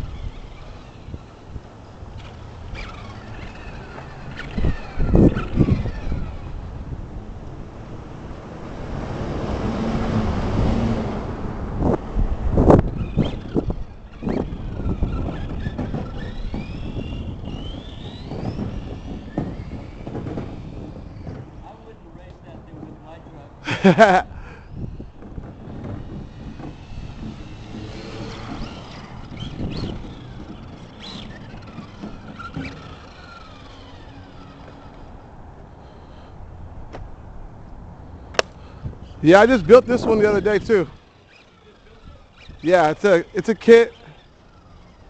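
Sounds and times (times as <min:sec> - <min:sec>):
electric motor whining: 0:00.0 - 0:21.9, 0:23.8 - 0:36.4, 0:38.2 - 0:45.0
wind rumble on microphone: 0:00.0 - 0:35.7, 0:36.4 - 0:41.0.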